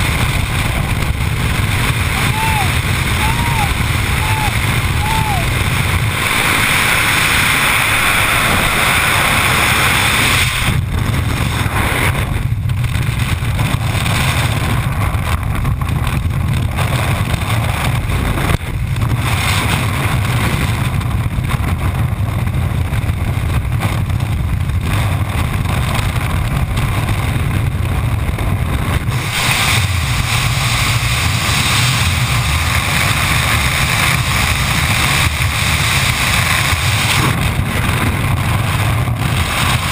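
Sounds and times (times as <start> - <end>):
freefall wind rushing: 0.0 - 39.9.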